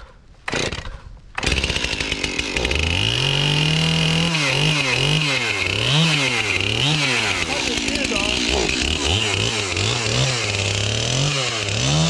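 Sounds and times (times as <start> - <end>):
chainsaw running and revving: 0.5 - 12.0.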